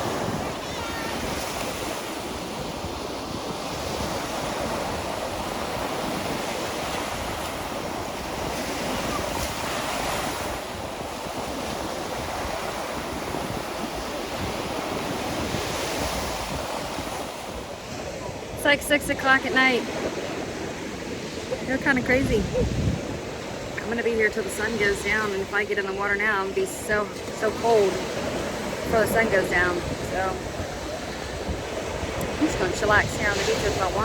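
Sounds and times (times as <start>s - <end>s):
surf washing onto sandy beach: 0.0s - 34.0s
wind buffeting microphone: 0.0s - 34.0s.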